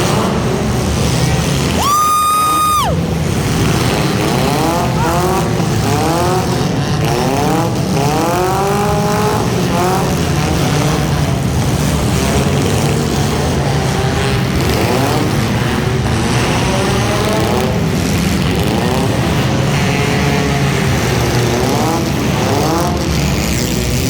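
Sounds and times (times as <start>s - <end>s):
race car engines accelerating: 0.0s - 24.0s.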